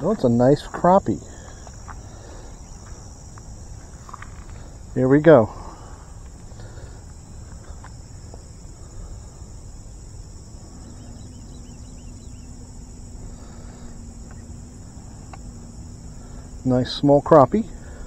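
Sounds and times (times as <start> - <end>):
high-pitched insect chorus: 0.0 - 18.0
low steady rumble: 0.0 - 18.0.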